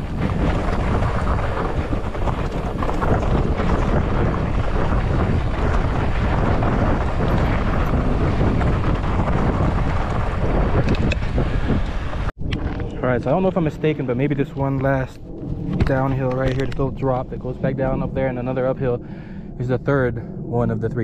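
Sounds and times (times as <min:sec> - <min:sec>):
bike rattling over ground: 0:00.0 - 0:17.2
wind buffeting microphone: 0:00.0 - 0:21.0.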